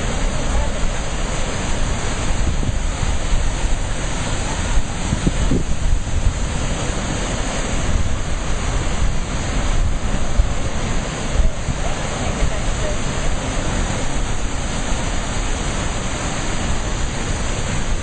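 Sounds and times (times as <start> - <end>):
ocean waves breaking: 0.0 - 18.0
wind buffeting microphone: 0.0 - 18.0.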